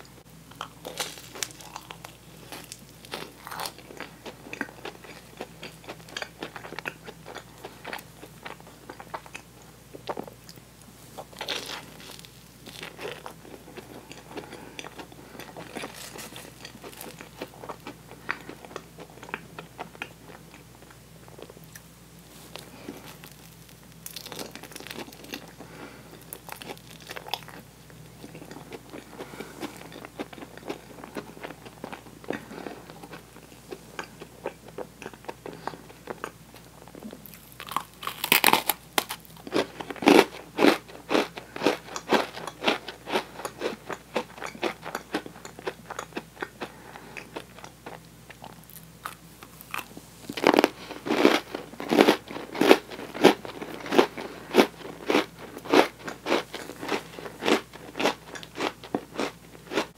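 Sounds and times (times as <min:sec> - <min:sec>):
soft chewing: 0:00.0 - 0:59.9
loud crisp crunching of cookie: 0:00.5 - 0:10.6, 0:11.2 - 0:21.8, 0:22.4 - 0:59.9.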